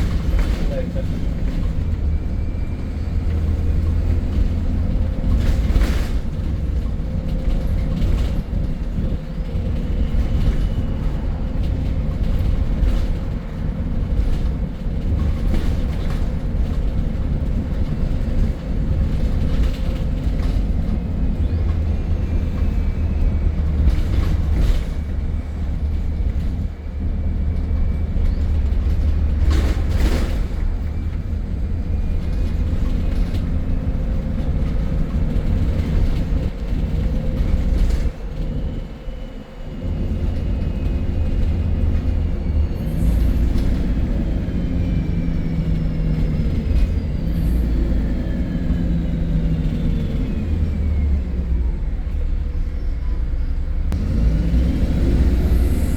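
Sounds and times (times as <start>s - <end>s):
bus engine and road drone: 0.0s - 55.9s.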